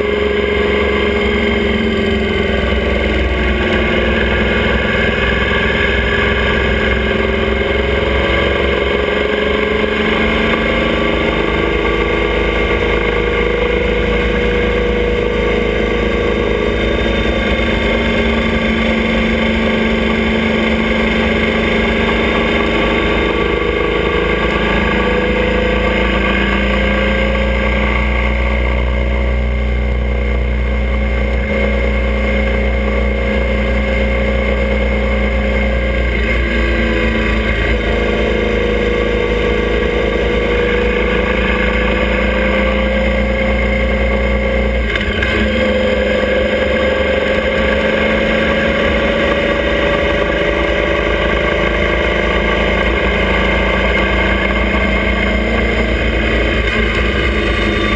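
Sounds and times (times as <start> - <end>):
motorcycle engine under way: 0.0 - 57.9.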